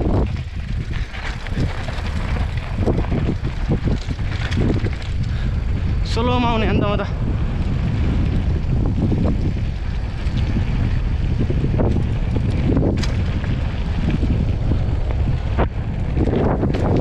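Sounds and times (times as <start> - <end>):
tyre rumble on dirt track: 0.0 - 17.0
wind buffeting microphone: 0.0 - 17.0.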